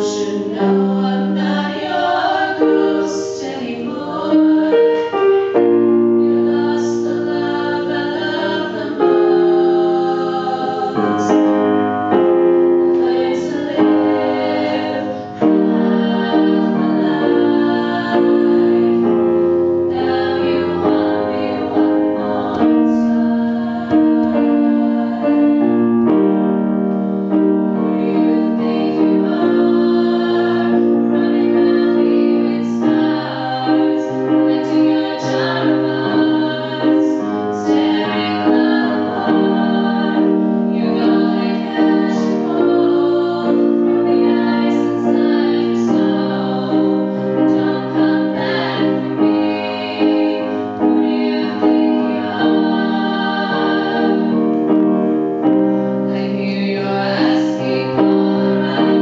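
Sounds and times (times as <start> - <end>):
women singing into microphone: 0.0 - 11.9, 12.9 - 25.8, 27.8 - 54.8, 56.1 - 59.0.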